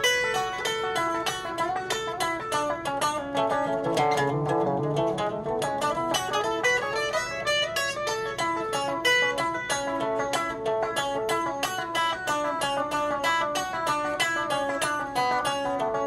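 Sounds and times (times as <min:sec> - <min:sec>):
electric guitar with delay: 0:00.0 - 0:16.0.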